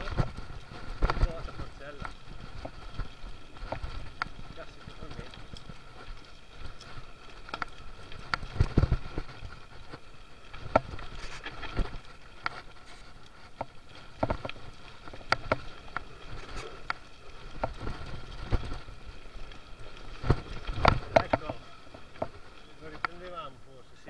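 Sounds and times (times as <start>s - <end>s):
bike chain and frame clatter: 0.0s - 24.0s.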